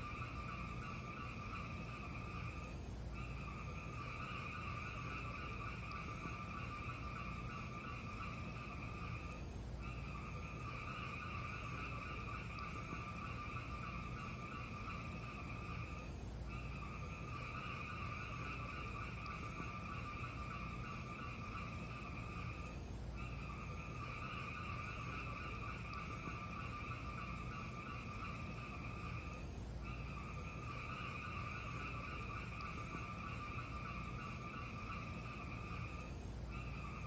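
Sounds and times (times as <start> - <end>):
fireplace fire burning: 0.0 - 37.0.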